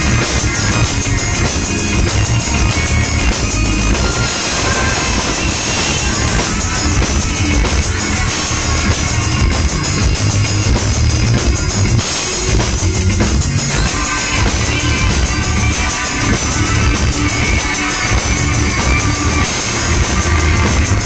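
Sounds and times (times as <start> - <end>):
live electronic music with drums and bass: 0.0 - 21.0.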